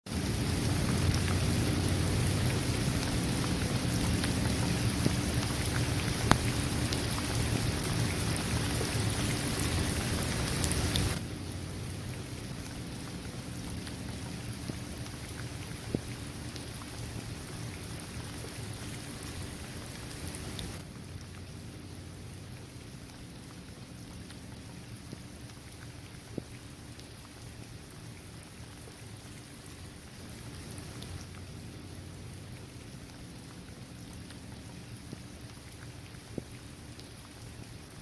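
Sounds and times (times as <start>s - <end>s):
steady rain falling: 0.1s - 38.0s.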